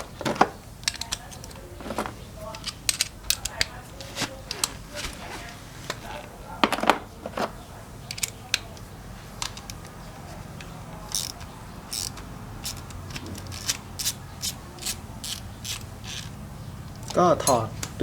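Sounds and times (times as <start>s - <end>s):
hand tools clicking on metal: 0.0s - 5.2s, 5.9s - 18.0s.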